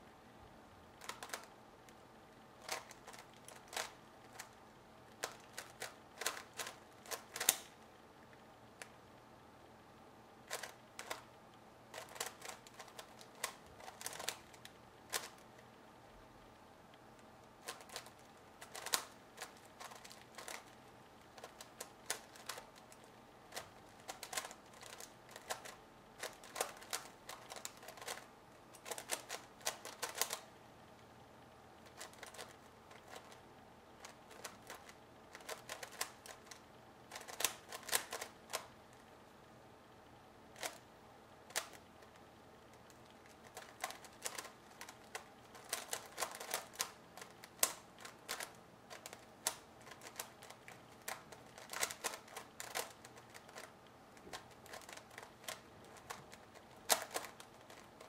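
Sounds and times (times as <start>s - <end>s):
plastic puzzle clicking: 1.0s - 1.5s, 2.6s - 8.9s, 10.4s - 11.3s, 11.9s - 15.6s, 17.4s - 30.5s, 31.8s - 33.4s, 34.0s - 38.8s, 40.5s - 40.8s, 41.4s - 58.0s.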